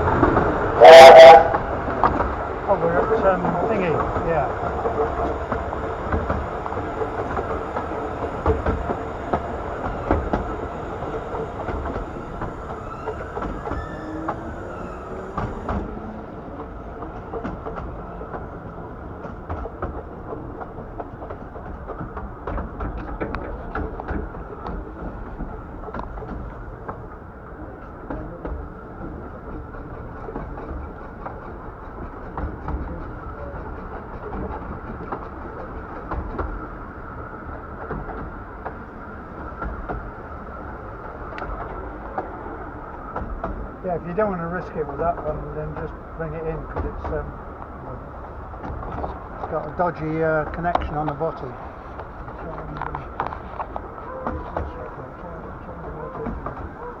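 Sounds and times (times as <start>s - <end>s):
train carriage rumble: 0.0s - 57.0s
wheels clicking over rail joints: 0.0s - 57.0s.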